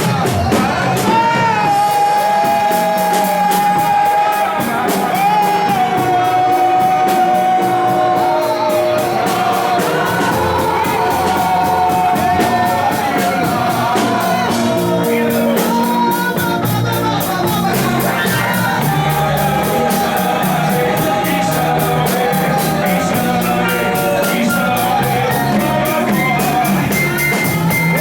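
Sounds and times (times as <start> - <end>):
band with steady beat: 0.0 - 28.0
person singing long sliding notes: 0.0 - 28.0.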